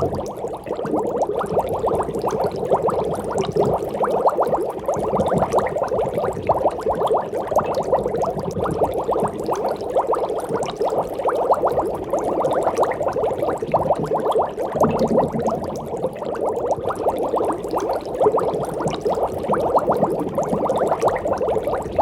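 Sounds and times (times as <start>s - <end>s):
aquarium water bubbling: 0.0s - 22.0s.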